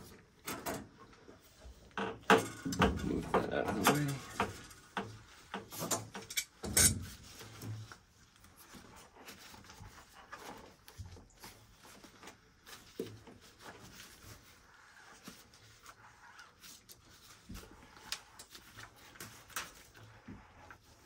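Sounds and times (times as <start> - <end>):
faint scraping and handling: 0.0 - 21.0.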